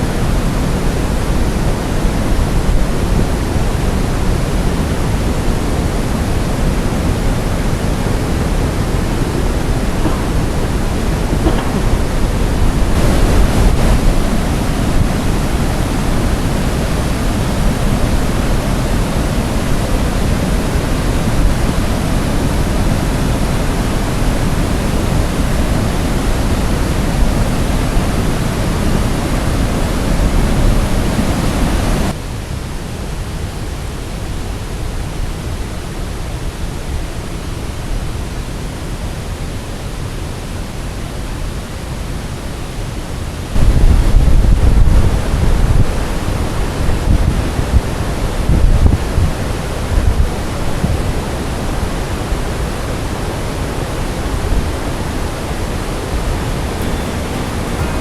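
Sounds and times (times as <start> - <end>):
waterfall rushing: 0.0 - 32.2, 41.4 - 58.0.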